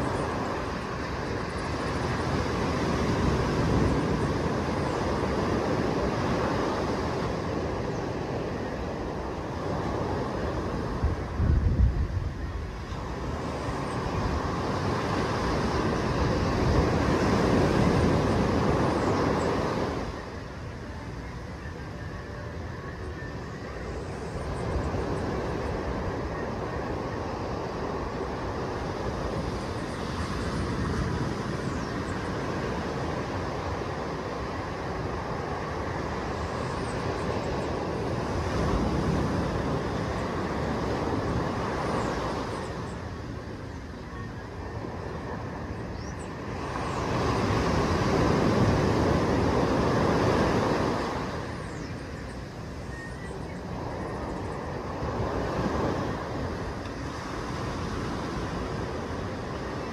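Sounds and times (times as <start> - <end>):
surf breaking on beach: 0.0 - 20.8, 24.4 - 59.9.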